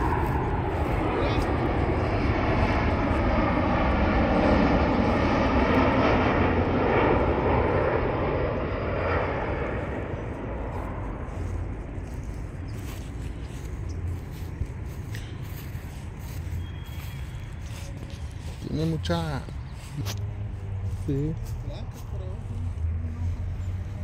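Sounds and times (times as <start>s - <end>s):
airplane jet roar: 0.0s - 24.0s.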